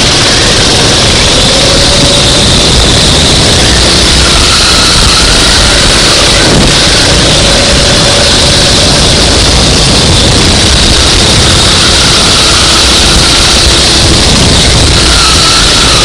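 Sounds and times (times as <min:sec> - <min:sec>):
go-kart engine roaring: 0:00.0 - 0:16.0.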